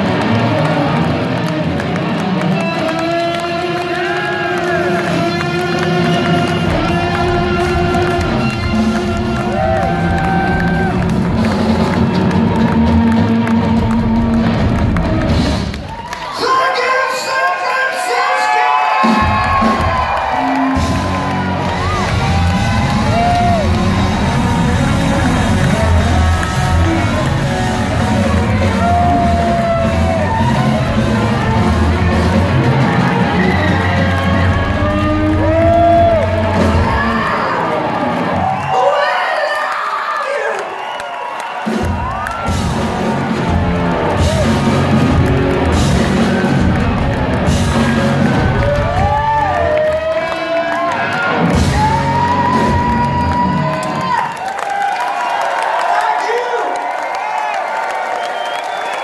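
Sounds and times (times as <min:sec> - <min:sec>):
live rock band playing loudly: 0:00.0 - 0:15.9, 0:19.0 - 0:38.7, 0:41.6 - 0:54.4.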